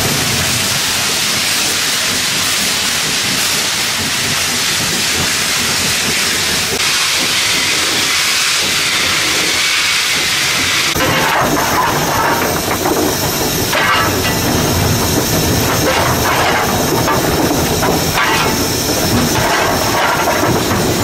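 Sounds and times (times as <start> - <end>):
rail clatter: 0.0 - 21.0
steam locomotive running: 0.0 - 21.0.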